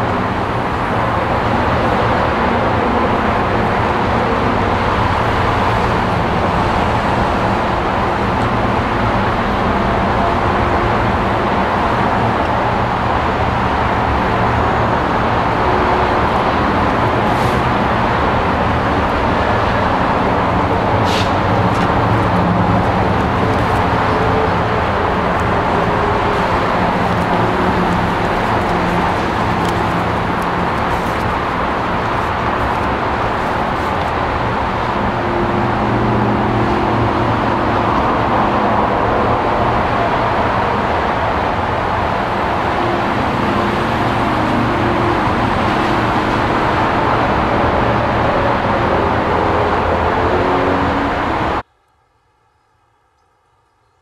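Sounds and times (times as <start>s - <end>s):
road traffic roar: 0.0s - 51.9s.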